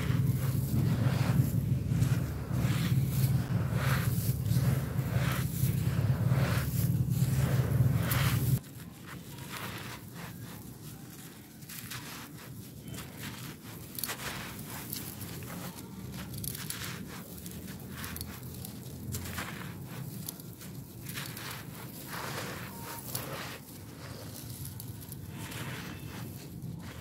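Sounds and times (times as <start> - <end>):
hands crumbling dry sand: 0.0 - 27.0.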